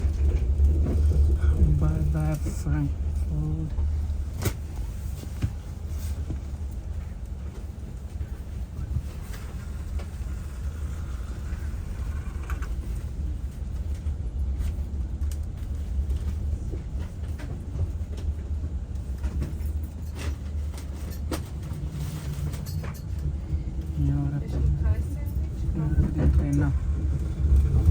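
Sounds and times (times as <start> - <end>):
low rumble of vehicle noise: 0.0 - 27.9.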